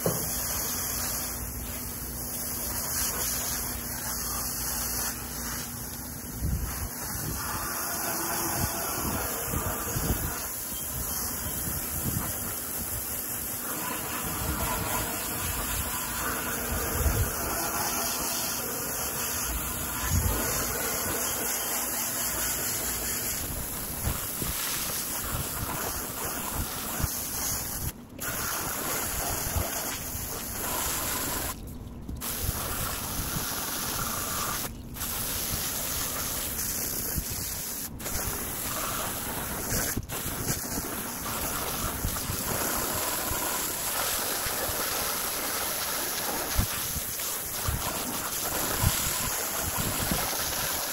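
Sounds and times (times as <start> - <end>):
hose nozzle spraying water: 0.0 - 50.9
spray spattering on wooden boards: 0.0 - 50.9.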